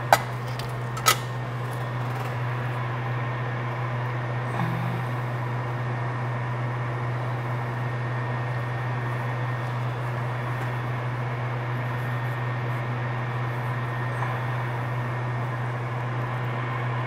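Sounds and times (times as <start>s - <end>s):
electric blower fan running: 0.0s - 17.0s.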